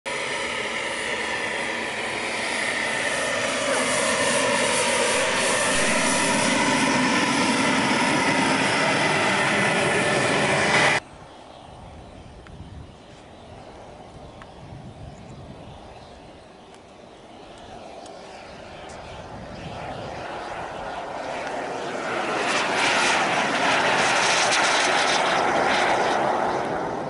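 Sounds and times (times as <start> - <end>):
model jet turbine whine: 0.1 - 27.0.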